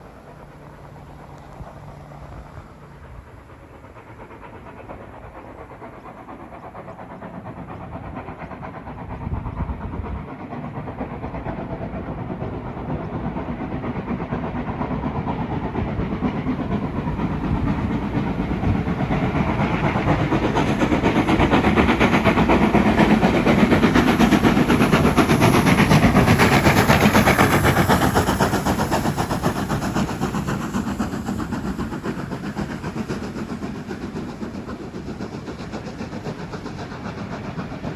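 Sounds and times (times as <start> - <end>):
steam locomotive exhaust beats: 0.0 - 37.9.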